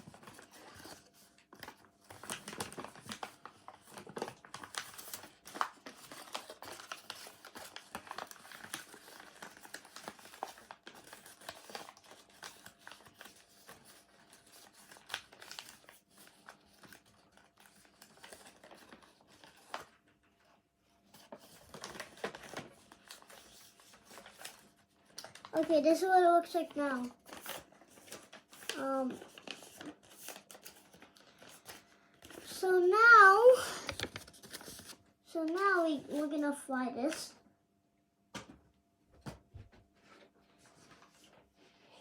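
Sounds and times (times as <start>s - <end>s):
paper crinkling as it is folded: 0.0s - 37.2s, 40.0s - 42.0s.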